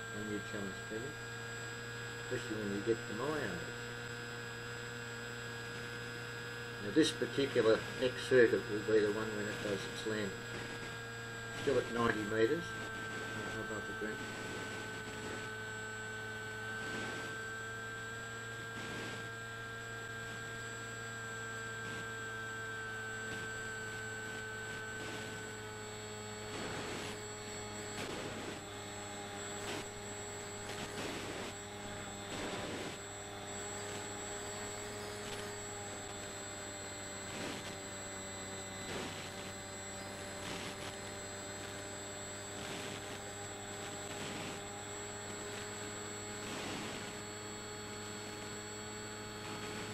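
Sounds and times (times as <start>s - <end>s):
steady hum: 0.0s - 49.9s
whining tones: 0.0s - 49.9s.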